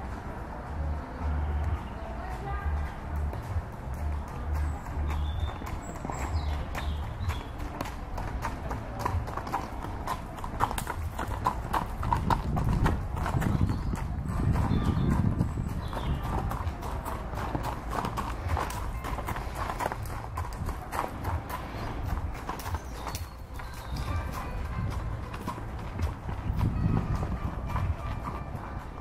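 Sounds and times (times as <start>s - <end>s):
horse hoofbeats on sand: 0.7s - 29.0s.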